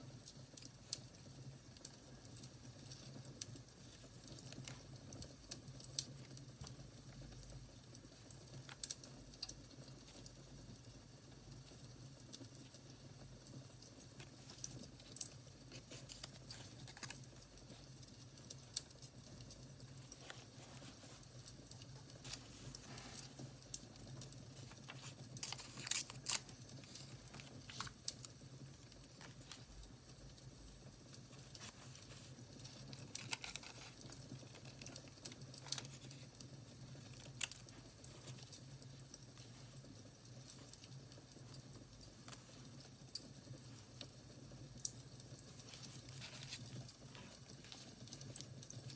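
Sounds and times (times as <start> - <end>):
paper and stickers crinkling: 0.6 - 10.4, 13.8 - 30.0, 31.1 - 44.2, 45.2 - 48.9.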